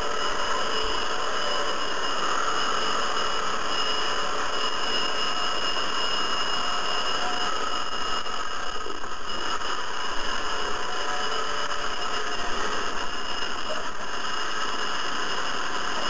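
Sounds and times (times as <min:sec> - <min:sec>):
high whining fan motor: 0:00.0 - 0:16.0.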